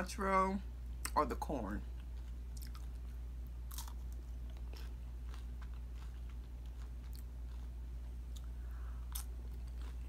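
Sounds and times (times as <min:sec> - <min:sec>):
low hum: 0:00.0 - 0:10.0
person crunching chips: 0:01.9 - 0:10.0.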